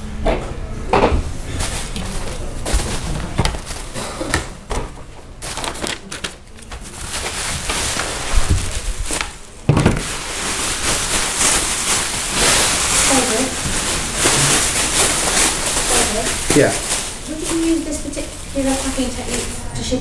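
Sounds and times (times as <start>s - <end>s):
bubble wrap and paper rustling: 1.4s - 20.0s.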